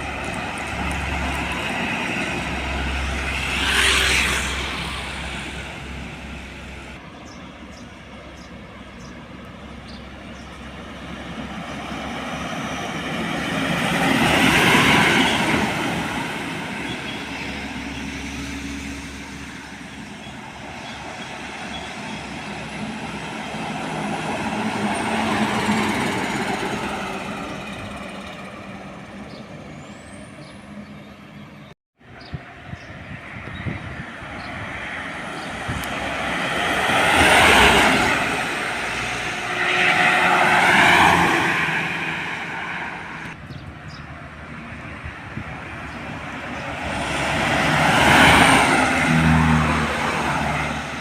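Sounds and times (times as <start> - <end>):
diesel trucks passing: 0.0 - 51.0.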